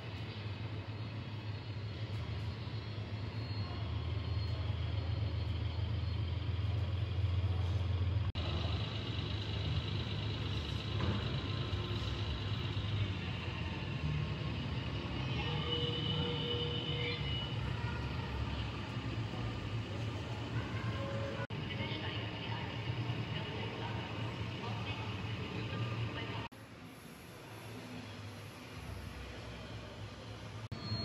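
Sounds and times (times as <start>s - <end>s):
model trains rumbling: 0.0s - 30.6s.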